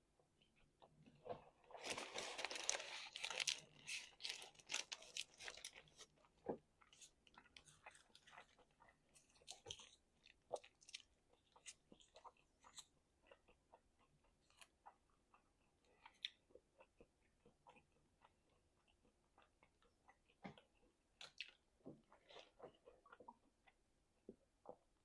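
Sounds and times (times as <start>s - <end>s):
person chewing crunchy food: 0.5s - 25.0s.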